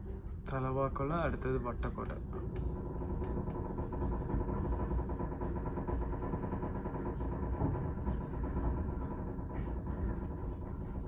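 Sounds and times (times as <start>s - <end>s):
diesel train engine drone: 0.0s - 11.0s.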